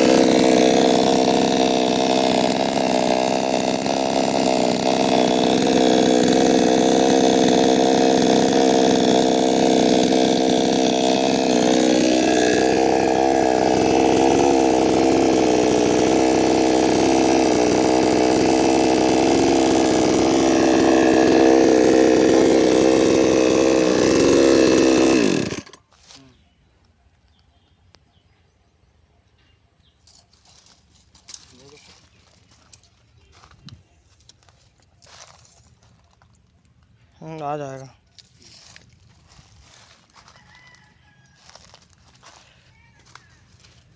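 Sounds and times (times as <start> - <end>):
chainsaw engine running: 0.0 - 26.3, 30.1 - 33.6, 34.2 - 43.9.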